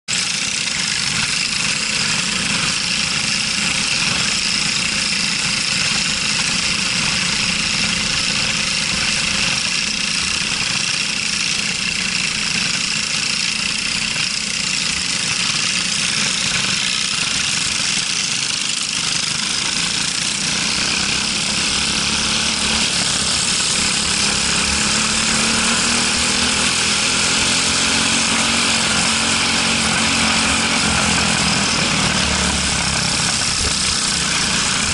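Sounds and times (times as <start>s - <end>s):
kart engines running: 0.1s - 34.9s.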